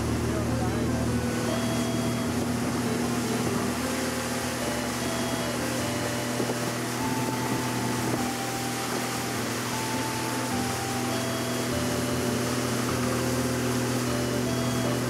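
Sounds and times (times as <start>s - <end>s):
outboard motor droning: 0.0s - 15.0s
water rushing past boat: 0.0s - 15.0s.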